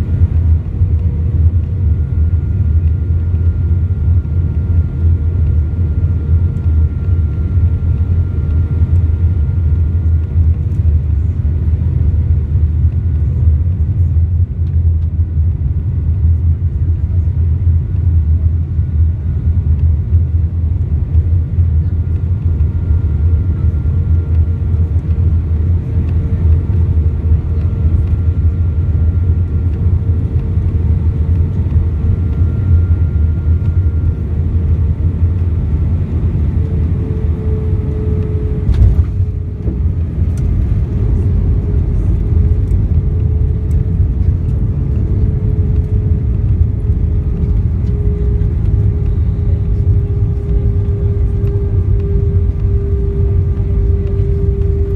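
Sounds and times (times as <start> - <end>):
airplane cabin rumble: 0.0 - 54.9
faint engine whine: 0.0 - 54.9.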